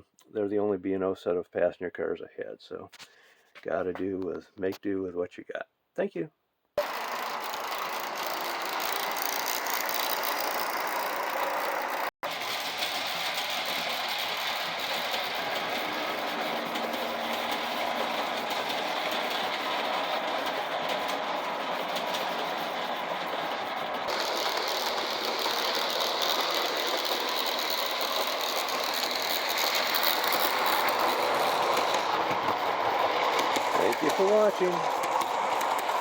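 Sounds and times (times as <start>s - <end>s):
model train motor whirring: 6.8s - 36.0s
model train wheels clattering: 6.8s - 36.0s.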